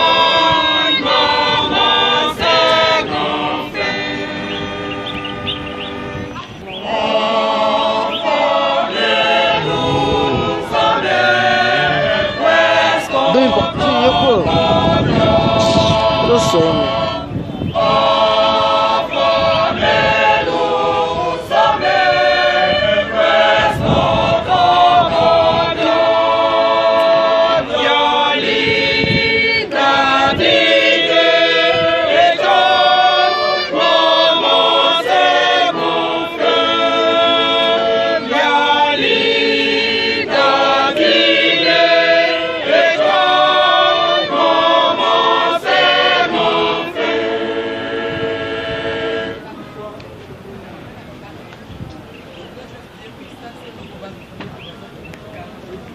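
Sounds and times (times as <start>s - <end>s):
women's choir singing a hymn: 0.0s - 50.0s.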